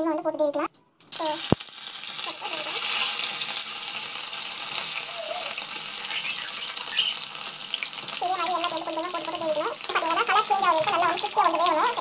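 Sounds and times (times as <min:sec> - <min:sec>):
food deep-frying in hot oil: 0:00.1 - 0:12.0.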